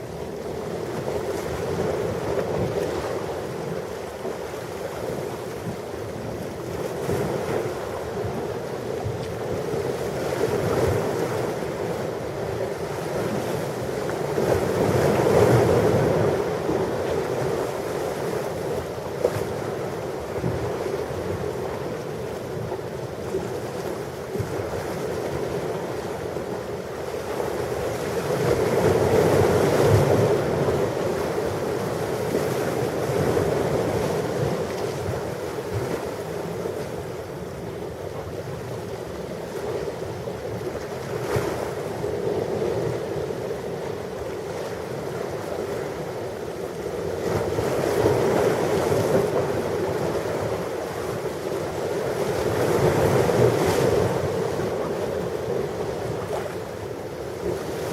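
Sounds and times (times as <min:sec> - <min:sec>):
breaking ocean waves: 0:00.0 - 0:57.9.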